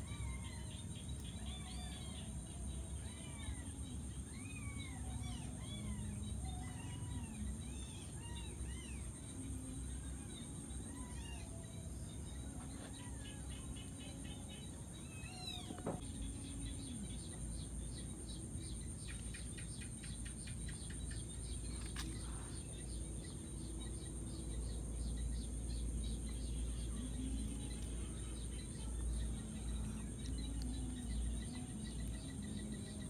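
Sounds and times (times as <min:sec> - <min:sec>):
birds chirping: 0:00.0 - 0:33.0
high-pitched insect chorus: 0:00.0 - 0:33.0.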